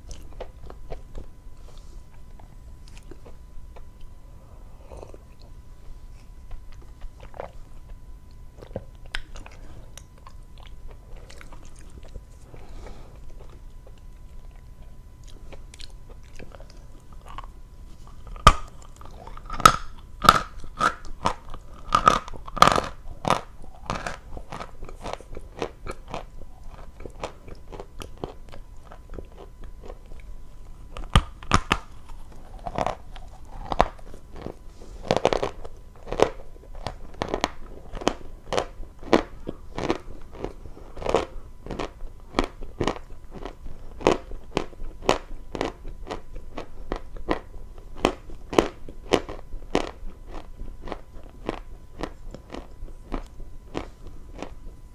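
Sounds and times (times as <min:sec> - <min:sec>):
chewing crunchy chalk: 0:04.9 - 0:54.8.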